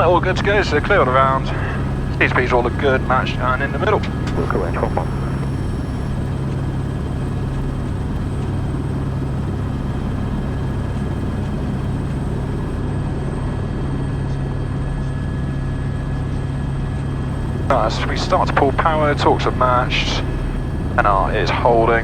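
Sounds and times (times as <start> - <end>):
helicopter turbines and rotors running: 0.0 - 22.0.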